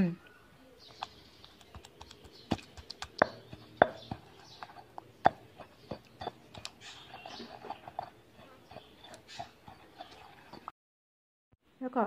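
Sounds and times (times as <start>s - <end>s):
pestle pounding in stone mortar: 1.0s - 10.7s.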